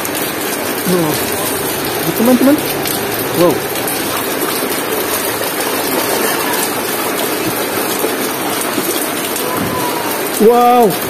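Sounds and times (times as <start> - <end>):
rain pattering on water: 0.0 - 11.0.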